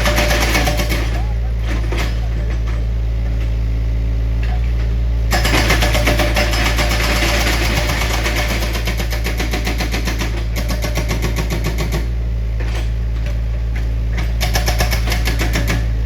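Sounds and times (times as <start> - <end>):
heavy engine rumbling: 0.0 - 16.0.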